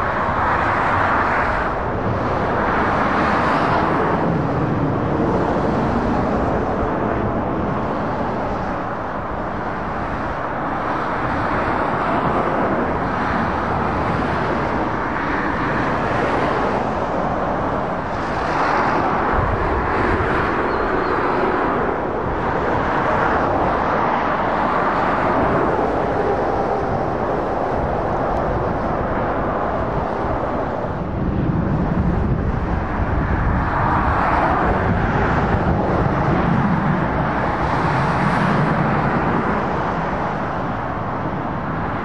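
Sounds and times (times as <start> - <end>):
traffic passing: 0.0 - 42.0.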